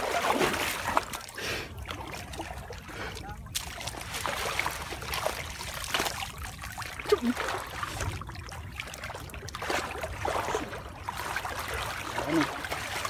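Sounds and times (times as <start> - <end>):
water trickling and sloshing: 0.0 - 13.0.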